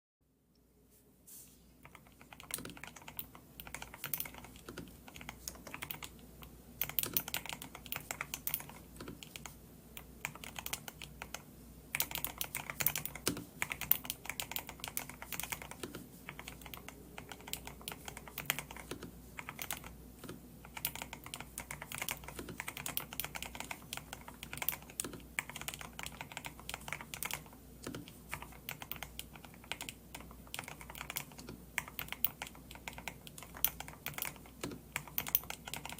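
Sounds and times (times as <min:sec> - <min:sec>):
mechanical keyboard typing: 0:01.8 - 0:35.9.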